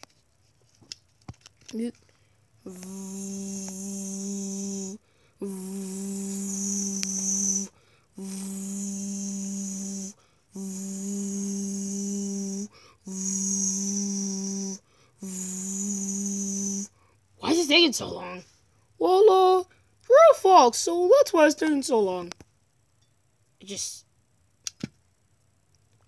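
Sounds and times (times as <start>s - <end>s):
low machine hum with hiss: 0.0s - 26.0s.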